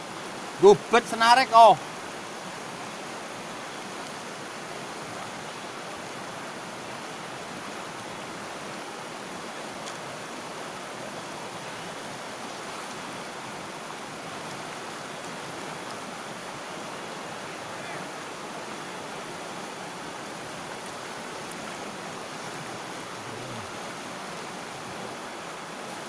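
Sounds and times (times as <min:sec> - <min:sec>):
river rushing around boulders: 0:00.0 - 0:26.0.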